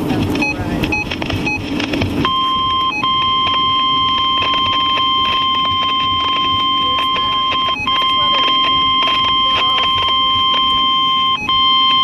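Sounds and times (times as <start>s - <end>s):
radio noise: 0.0s - 12.0s
steady warning alarm tone: 0.4s - 12.0s.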